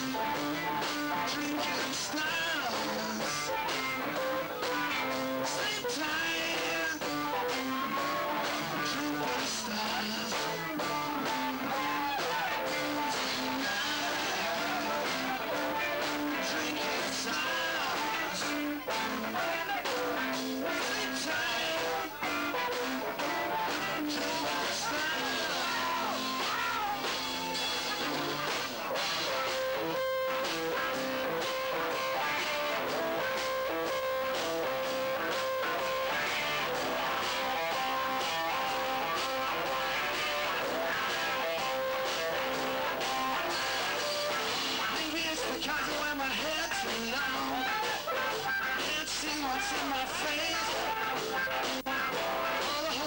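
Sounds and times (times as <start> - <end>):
electric guitars: 0.0 - 53.0
live rock band playing: 0.0 - 53.0.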